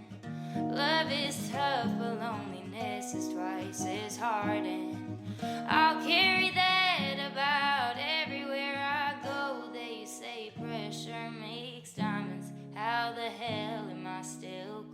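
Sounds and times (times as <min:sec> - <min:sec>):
song with vocals and guitar: 0:00.0 - 0:14.9.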